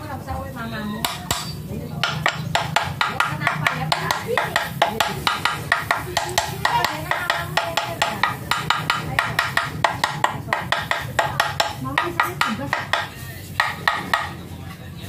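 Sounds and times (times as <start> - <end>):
hammer striking metal: 1.0 - 14.4.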